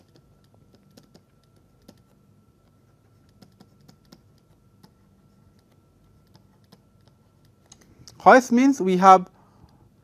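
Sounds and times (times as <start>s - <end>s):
faint clicks and taps: 0.0s - 8.2s
faint steady hum: 0.0s - 10.0s.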